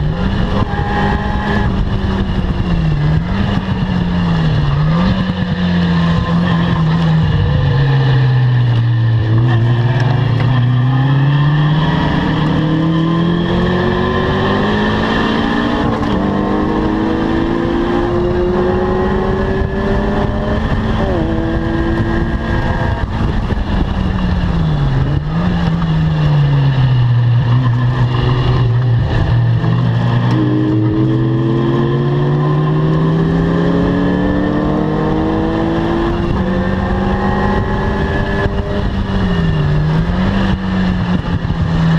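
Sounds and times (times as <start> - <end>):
sports car engine revving: 0.0 - 41.9.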